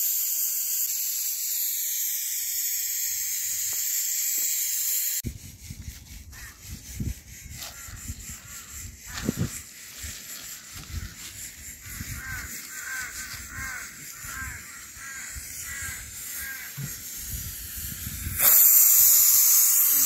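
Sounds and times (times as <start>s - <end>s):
pressure cooker hissing steam: 0.0s - 5.2s, 7.0s - 20.0s.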